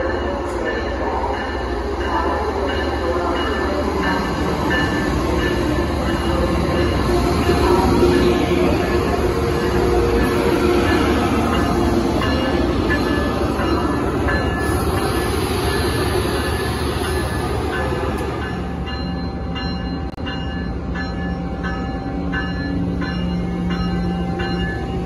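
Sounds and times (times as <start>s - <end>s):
electric locomotive rumble: 0.0s - 25.0s.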